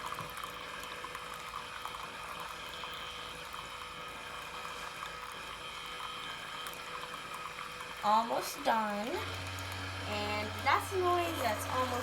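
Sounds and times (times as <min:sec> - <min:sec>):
coffee maker humming: 0:00.0 - 0:12.0
coffee streaming into cup: 0:00.0 - 0:12.0.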